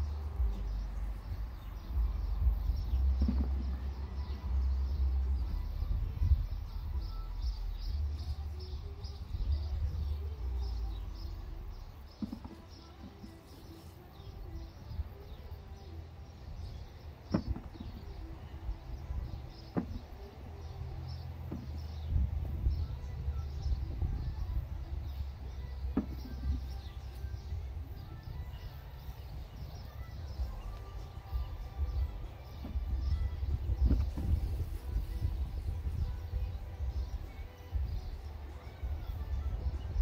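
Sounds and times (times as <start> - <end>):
wind rumbling on microphone: 0.0 - 40.0.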